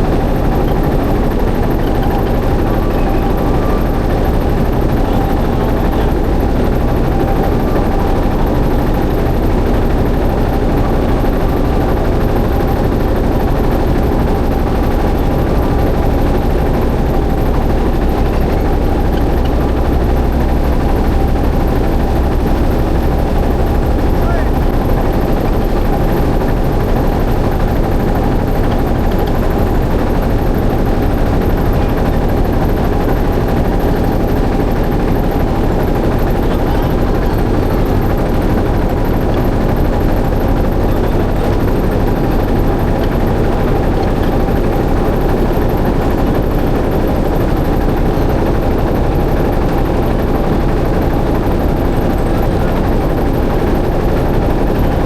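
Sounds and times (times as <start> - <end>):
motorboat engine running: 0.0 - 55.0.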